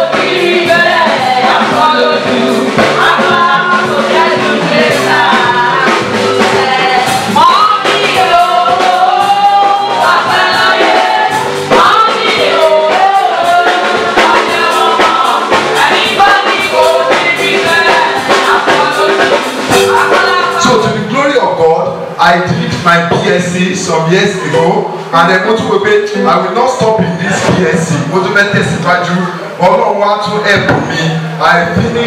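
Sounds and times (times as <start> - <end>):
instrumental accompaniment: 0.0 - 29.6
lead voice singing gospel: 0.0 - 32.0.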